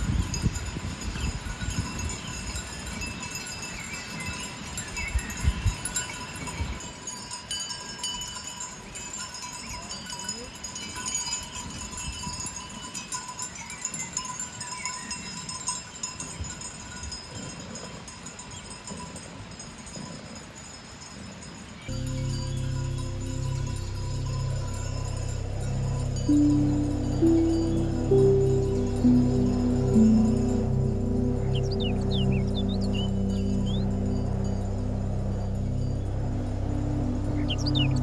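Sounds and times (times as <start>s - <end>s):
sheep bells ringing: 0.0s - 38.0s.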